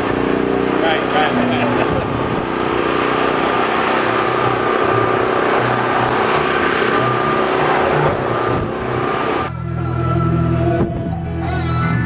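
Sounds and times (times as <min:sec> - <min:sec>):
car engine running: 0:00.0 - 0:11.5
dense steady background noise: 0:00.0 - 0:12.0.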